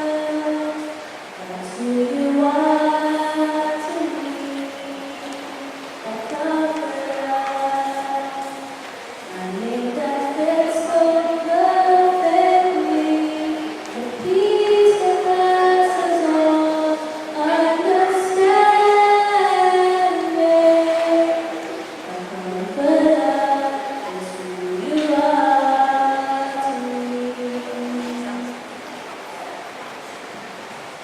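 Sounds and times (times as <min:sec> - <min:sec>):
woman singing slow melody: 0:00.0 - 0:28.8.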